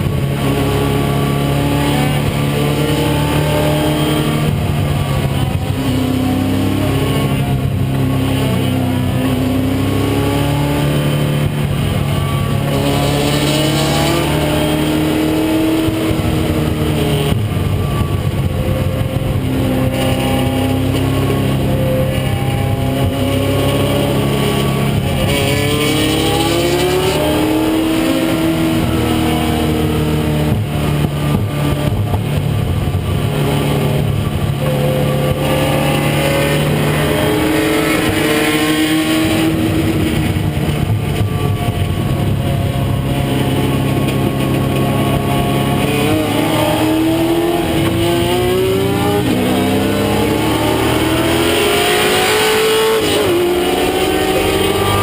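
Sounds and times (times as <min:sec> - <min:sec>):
race car engine accelerating: 0:00.0 - 0:55.0
wind and road noise: 0:00.0 - 0:55.0.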